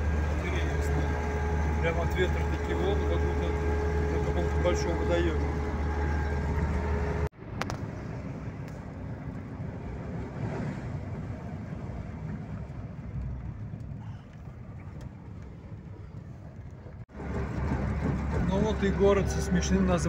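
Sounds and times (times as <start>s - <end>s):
car interior road and engine noise: 0.0s - 20.0s.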